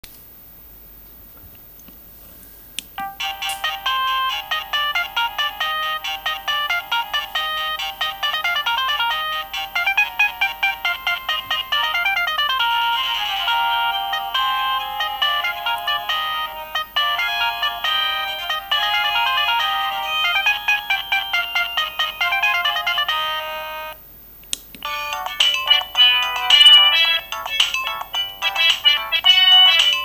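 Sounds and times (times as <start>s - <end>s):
mobile phone ringtone melody: 3.0s - 24.0s, 24.8s - 30.0s.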